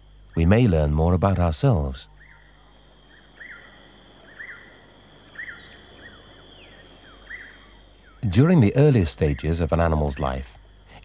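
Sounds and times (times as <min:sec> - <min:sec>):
bird chirping: 0:00.0 - 0:10.9.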